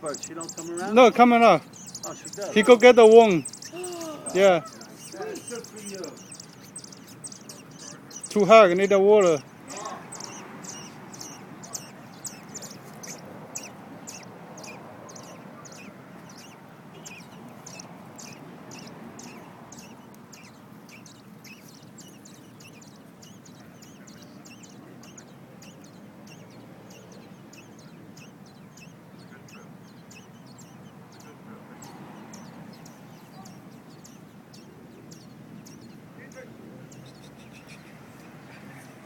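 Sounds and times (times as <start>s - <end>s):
nestling birds cheeping: 0.0s - 39.0s.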